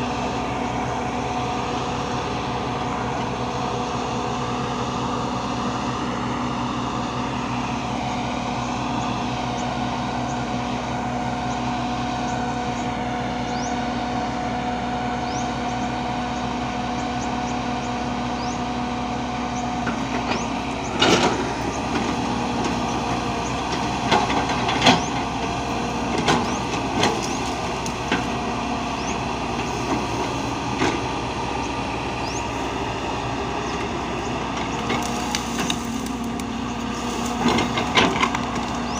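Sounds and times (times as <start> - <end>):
heavy machine engine running: 0.0 - 38.9.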